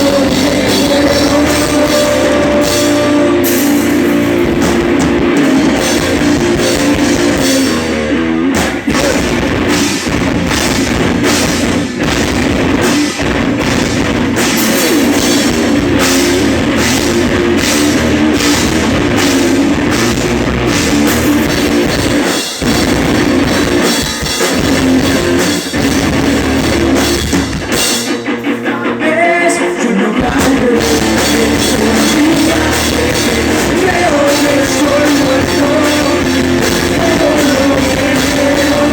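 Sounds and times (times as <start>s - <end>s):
pop-punk band playing live: 0.0s - 38.9s.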